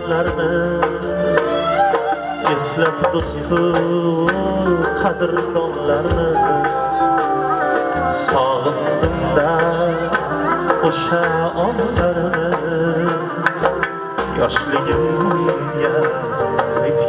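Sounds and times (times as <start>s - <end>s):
flute melody: 0.0s - 17.0s
keyboard melody: 0.0s - 17.0s
quick percussion beat: 0.0s - 17.0s.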